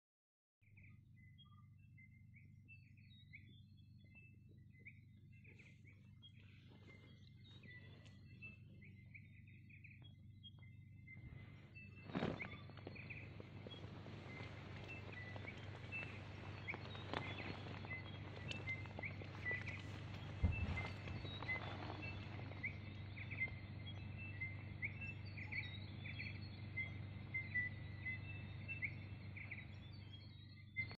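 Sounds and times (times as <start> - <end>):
low steady rumble: 0.7 - 30.9
birds chirping: 0.8 - 30.9
steady low hum: 0.8 - 30.9.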